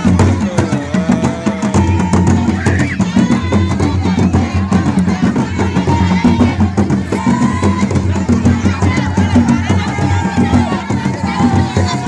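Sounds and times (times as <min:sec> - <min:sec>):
drum-led percussion music: 0:00.0 - 0:12.0
voices: 0:00.0 - 0:12.0.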